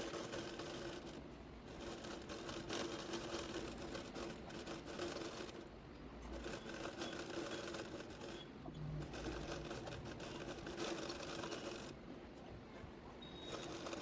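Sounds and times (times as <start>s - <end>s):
needle and thread through fabric: 0.0s - 8.4s, 9.0s - 12.0s, 13.4s - 14.0s.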